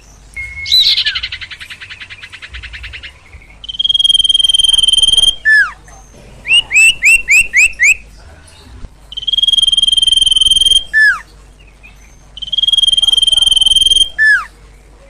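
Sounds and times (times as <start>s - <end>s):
bird call with chirps and whistles: 0.0s - 8.1s, 9.1s - 14.6s.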